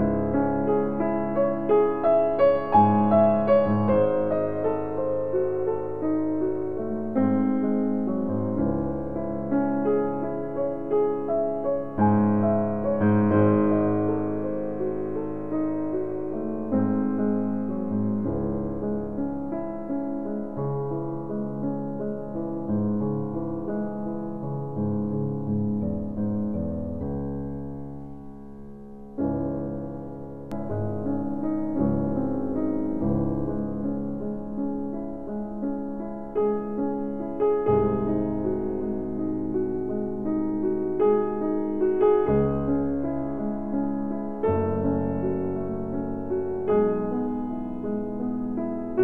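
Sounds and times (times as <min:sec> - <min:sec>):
slow relaxation piano music: 0:00.0 - 0:49.0.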